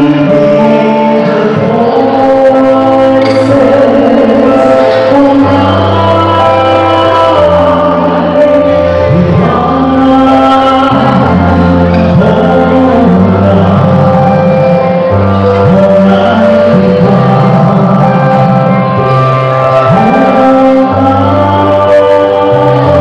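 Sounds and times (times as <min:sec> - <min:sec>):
instrumental accompaniment with chords: 0:00.0 - 0:23.0
man singing into microphone: 0:00.0 - 0:23.0.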